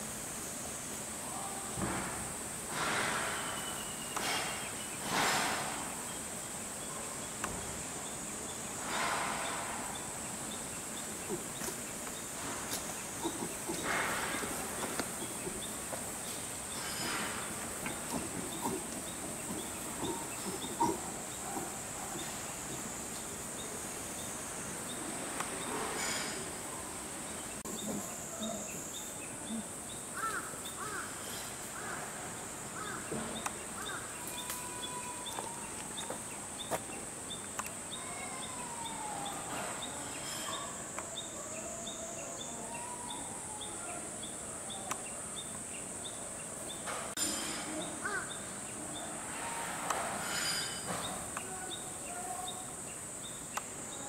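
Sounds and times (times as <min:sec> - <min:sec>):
faint distant voices: 0:01.0 - 0:54.0.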